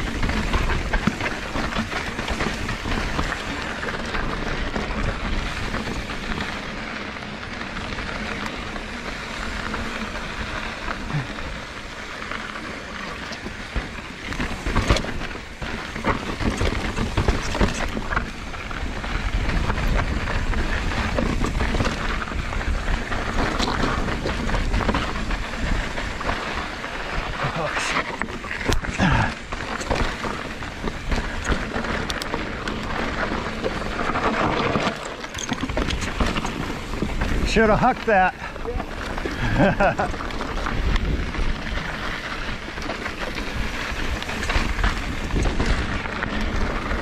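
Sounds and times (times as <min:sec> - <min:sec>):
bike rattling: 0:00.0 - 0:47.0
tyres crunching over gravel: 0:00.0 - 0:47.0.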